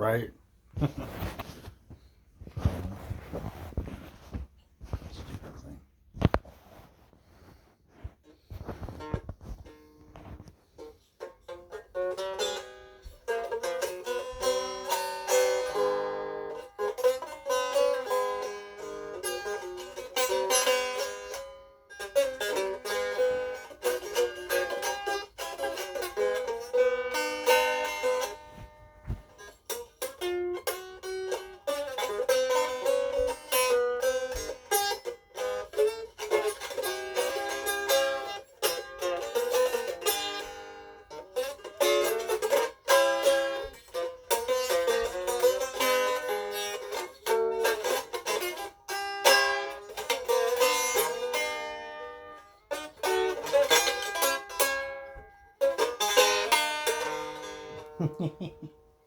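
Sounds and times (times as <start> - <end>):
banjo picking: 0.1 - 5.6, 6.2 - 59.0.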